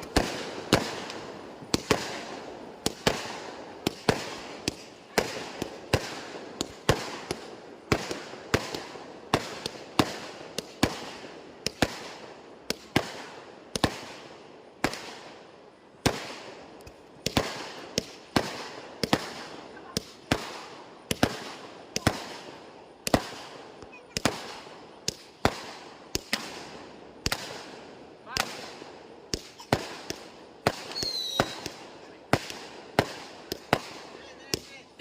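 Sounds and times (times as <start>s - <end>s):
fireworks bangs: 0.0s - 15.4s, 16.0s - 35.0s.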